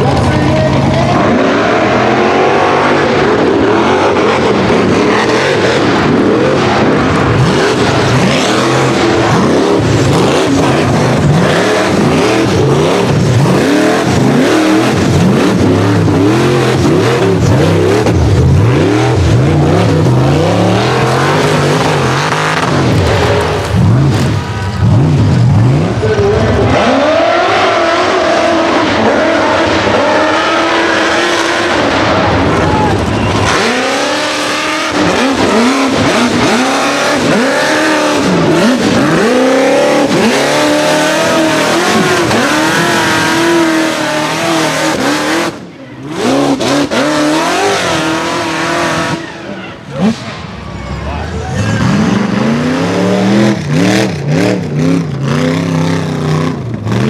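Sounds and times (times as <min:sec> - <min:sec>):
buggy engine revving hard: 0:00.0 - 0:57.0.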